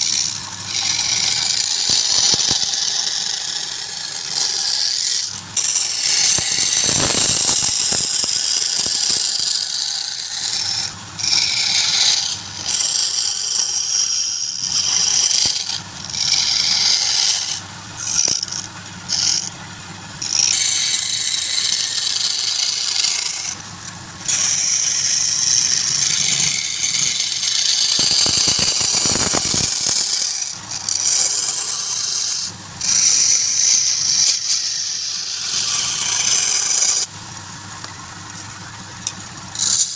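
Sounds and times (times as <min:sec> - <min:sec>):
lathe tool cutting wood: 0:00.0 - 0:37.1, 0:39.6 - 0:39.9
steady low hum: 0:00.0 - 0:39.9.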